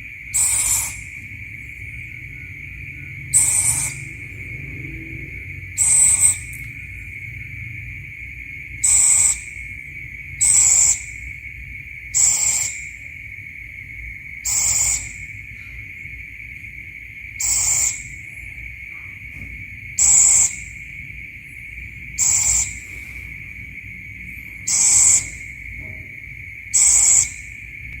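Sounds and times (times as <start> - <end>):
owl calling: 0.0 - 28.0
steady high buzz: 0.0 - 28.0.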